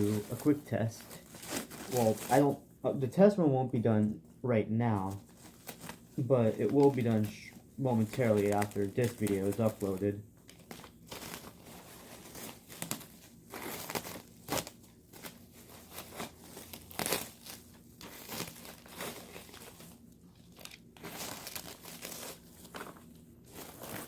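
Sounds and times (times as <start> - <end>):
packing material crinkling: 0.0 - 2.6, 5.0 - 24.0.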